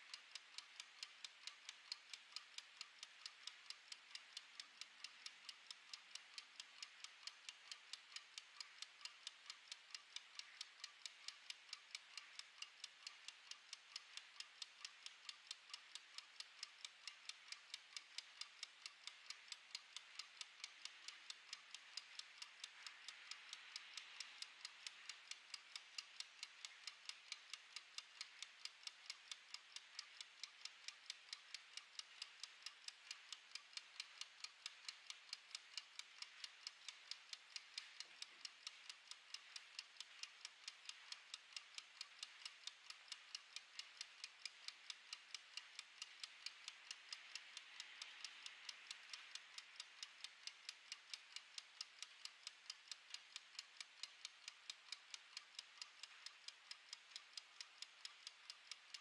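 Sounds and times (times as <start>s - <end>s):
kitchen timer ticking: 0.0s - 59.0s.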